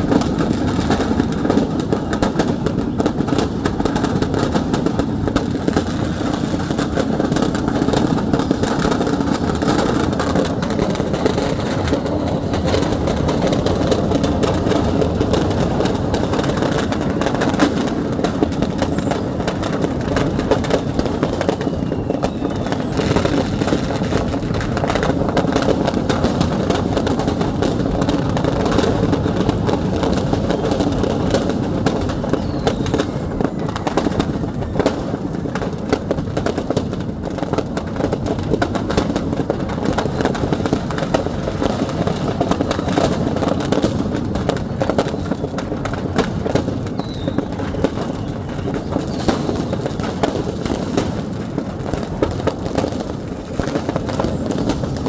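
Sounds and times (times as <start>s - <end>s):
firecrackers popping and crackling: 0.0s - 55.0s.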